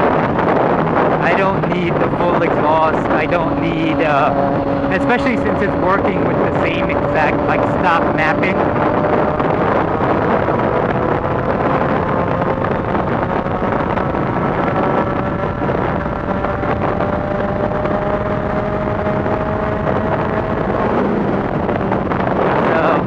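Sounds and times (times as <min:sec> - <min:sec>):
wind noise on microphone: 0:00.0 - 0:23.0
motorcycle engine revving up: 0:00.2 - 0:23.0.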